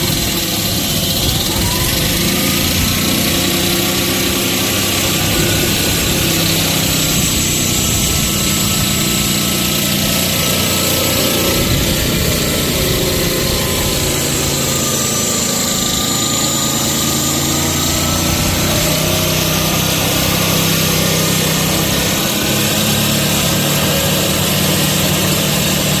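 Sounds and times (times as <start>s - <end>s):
concrete cutting saw running: 0.0s - 26.0s.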